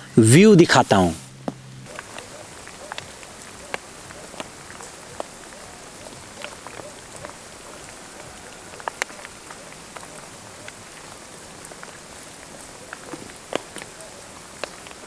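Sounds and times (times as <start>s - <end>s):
rain falling: 0.0s - 15.0s
raindrops ticking close by: 0.0s - 15.0s.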